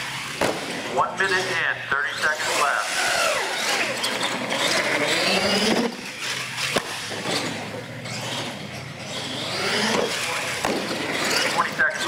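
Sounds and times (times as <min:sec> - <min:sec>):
toy truck motor whining: 0:01.3 - 0:12.0.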